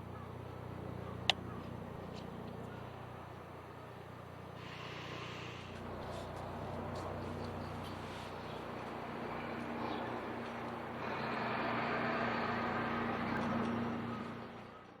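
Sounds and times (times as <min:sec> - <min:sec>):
vehicle low hum: 0:00.0 - 0:14.9.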